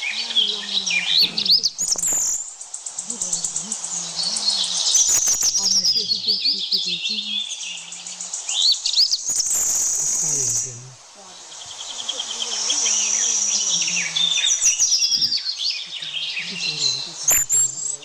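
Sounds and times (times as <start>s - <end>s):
murmured human voices: 0.0s - 2.2s, 2.9s - 8.7s, 10.1s - 18.0s
birds chirping and singing: 0.0s - 18.0s
high insect buzz: 0.0s - 18.0s.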